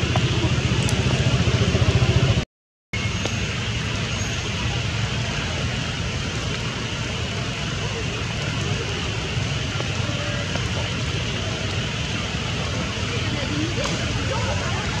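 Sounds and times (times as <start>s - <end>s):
heavy rain on water: 3.0s - 15.0s.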